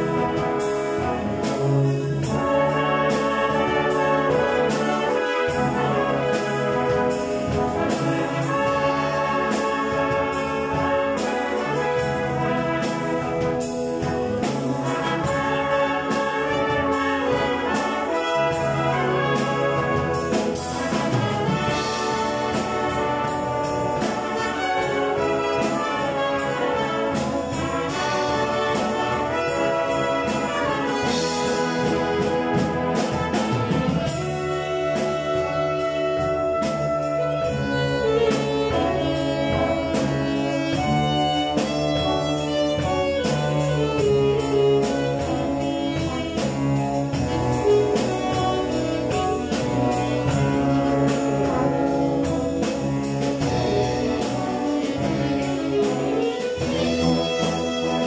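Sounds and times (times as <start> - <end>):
alto saxophone solo: 0.0 - 58.0
military band playing pop medley: 0.0 - 58.0.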